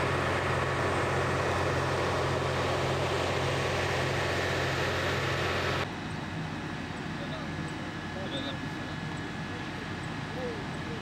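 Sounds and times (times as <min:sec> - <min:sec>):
machinery drone: 0:00.0 - 0:11.0.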